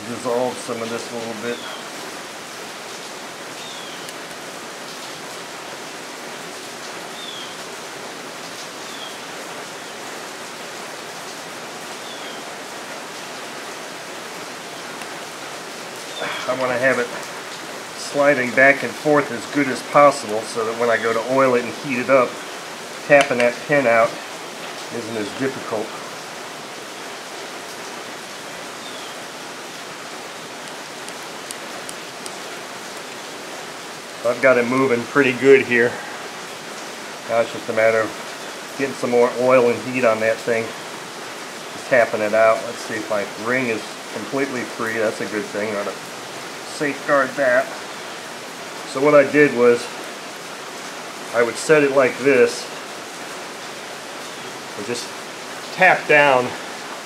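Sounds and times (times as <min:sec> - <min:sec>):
rain falling on building: 0:00.0 - 0:57.0.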